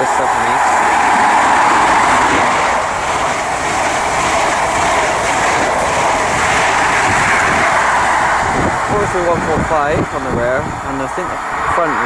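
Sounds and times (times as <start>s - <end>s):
train passing at speed: 0.0s - 12.0s.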